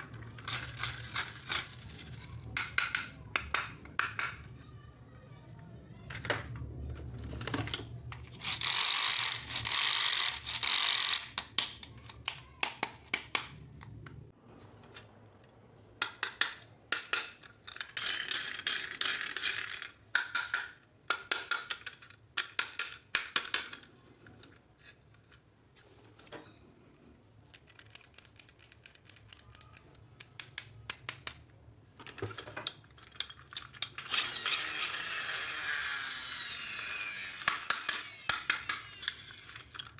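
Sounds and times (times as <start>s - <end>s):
plastic toy parts clicking: 0.0s - 4.5s, 7.2s - 14.1s, 16.0s - 25.5s, 27.5s - 39.9s.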